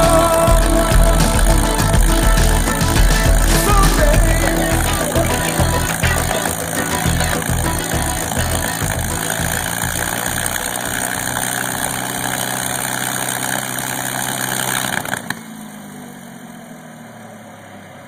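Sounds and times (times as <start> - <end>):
aircraft engine idling: 0.0 - 15.3.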